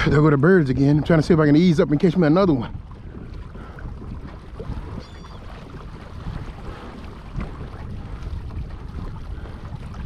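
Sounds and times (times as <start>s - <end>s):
water lapping: 0.0s - 10.0s
wind buffeting microphone: 0.0s - 10.0s.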